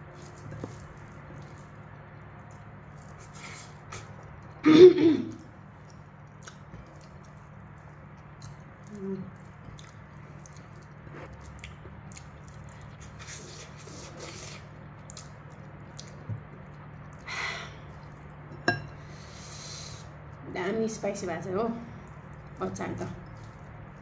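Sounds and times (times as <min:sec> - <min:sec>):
quiet chewing: 0:00.1 - 0:04.6, 0:05.3 - 0:18.6, 0:22.0 - 0:24.0.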